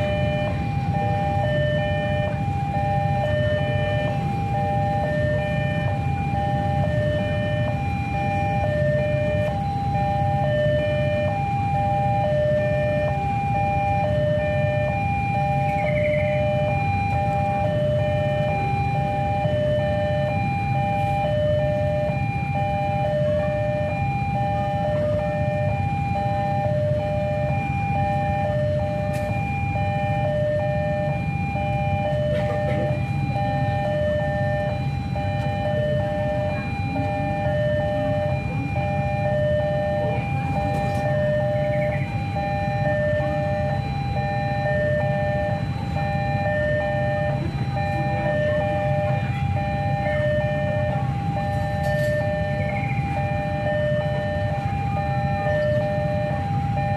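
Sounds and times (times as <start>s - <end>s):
level crossing alarm two-tone: 0.0s - 56.9s.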